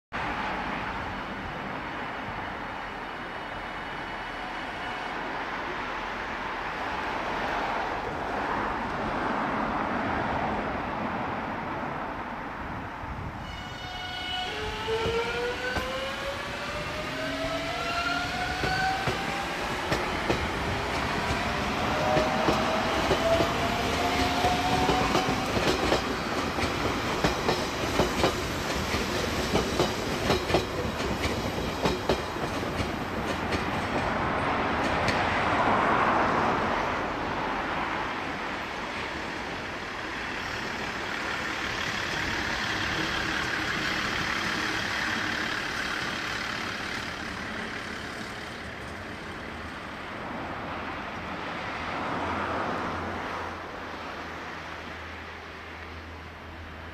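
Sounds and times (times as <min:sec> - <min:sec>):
train rolling rumble: 0:00.2 - 0:56.9.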